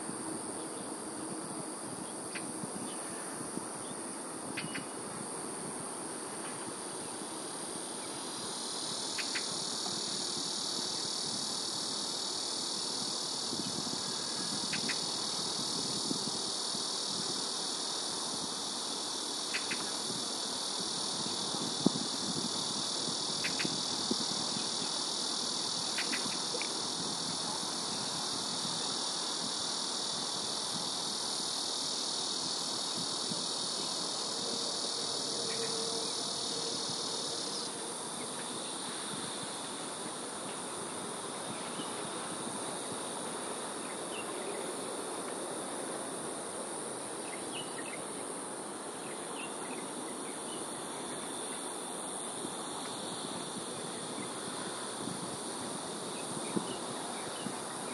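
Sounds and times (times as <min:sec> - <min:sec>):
thin high buzz: 0:00.0 - 0:48.2
high-pitched insect chorus: 0:00.0 - 0:57.9.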